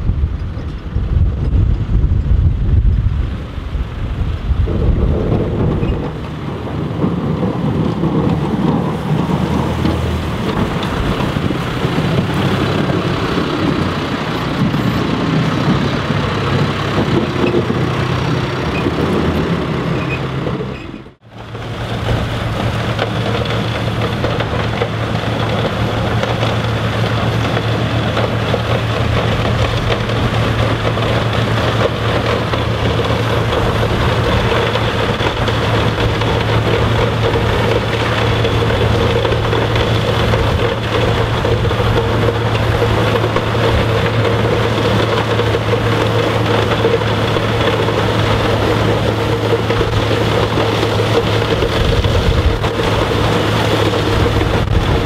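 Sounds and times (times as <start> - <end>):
loader engine: 0.0 - 55.0
tractor running: 0.0 - 55.0
snowblower blowing snow: 3.4 - 55.0.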